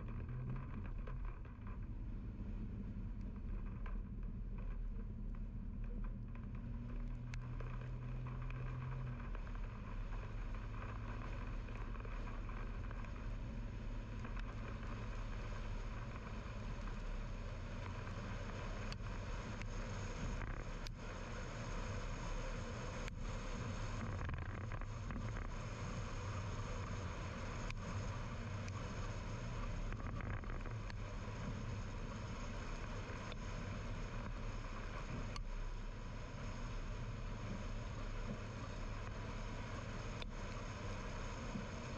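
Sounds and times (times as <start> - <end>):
car road and engine noise: 0.0 - 41.9
faint ticks: 3.1 - 21.2, 23.9 - 41.9.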